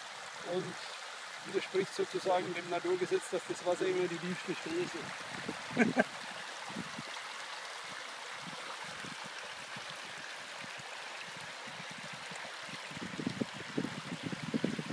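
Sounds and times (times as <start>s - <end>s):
water trickling in stream: 0.0s - 14.9s.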